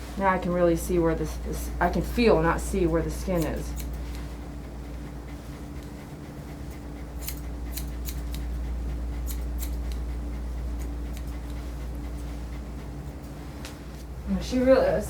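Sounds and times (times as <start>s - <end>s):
steady low hum: 0.0s - 15.0s
grooming shears snipping hair: 0.2s - 14.1s.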